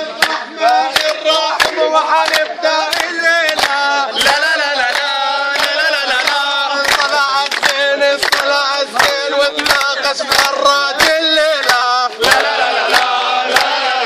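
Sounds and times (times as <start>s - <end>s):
group singing a chant: 0.0s - 14.0s
hand-clapping: 0.1s - 13.9s.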